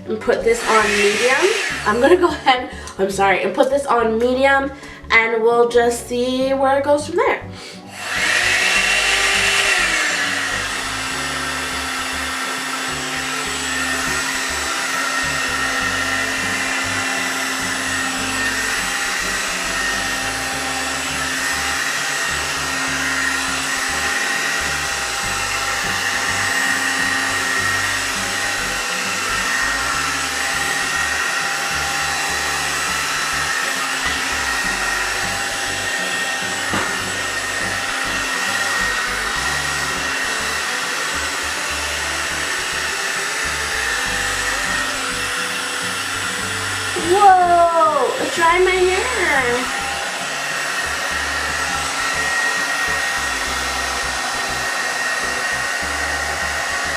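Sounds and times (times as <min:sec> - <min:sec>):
hot air brush blowing with motor whine: 0:00.0 - 0:03.0, 0:07.5 - 0:56.9.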